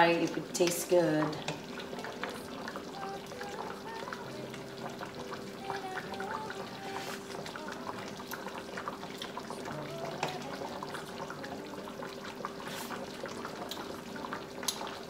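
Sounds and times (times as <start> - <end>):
sauce bubbling and popping: 0.2 - 15.0.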